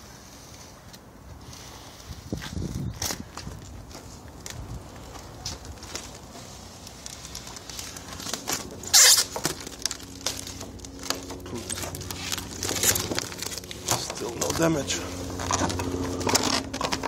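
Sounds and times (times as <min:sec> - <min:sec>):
plastic film crackling and rustling: 0:00.4 - 0:17.0.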